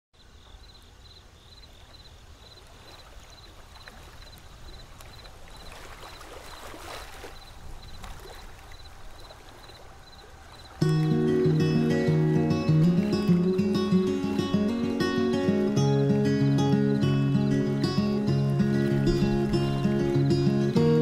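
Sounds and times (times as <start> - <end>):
flowing water rushing: 2.6 - 21.0.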